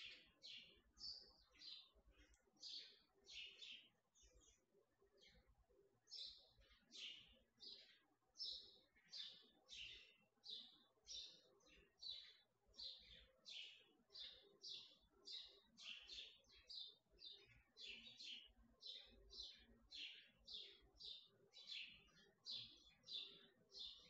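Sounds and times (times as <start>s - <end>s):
bird chirping faintly: 0.0s - 24.0s.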